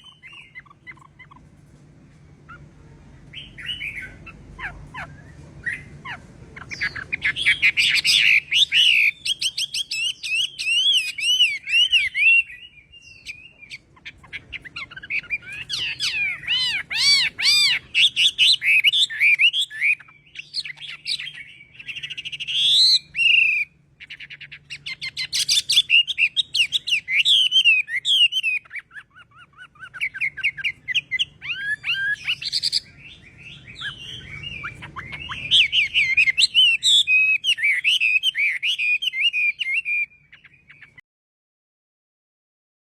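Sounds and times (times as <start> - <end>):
songbird singing whistled phrases: 0.0 - 1.4, 3.3 - 41.0.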